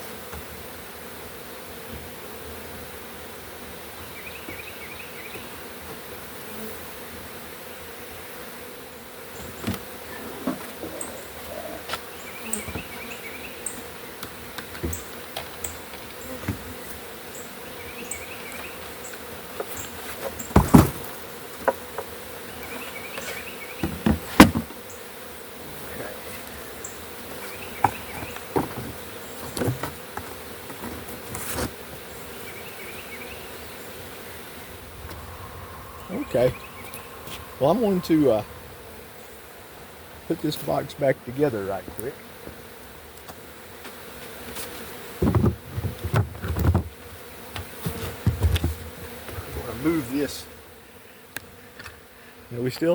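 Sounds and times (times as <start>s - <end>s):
honey bees buzzing: 0.0s - 52.9s.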